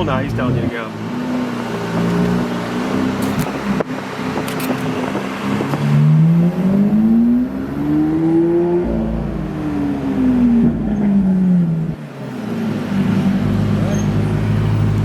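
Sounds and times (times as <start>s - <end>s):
car engine accelerating: 0.0s - 15.0s
low road rumble: 0.0s - 15.0s.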